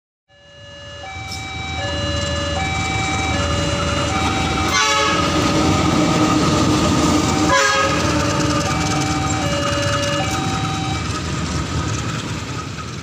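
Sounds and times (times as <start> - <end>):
diesel locomotive rumble: 0.3 - 13.0.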